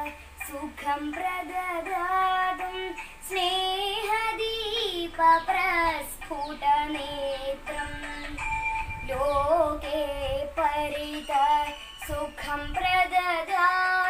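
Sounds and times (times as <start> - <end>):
girl singing slow melody: 0.0 - 14.0.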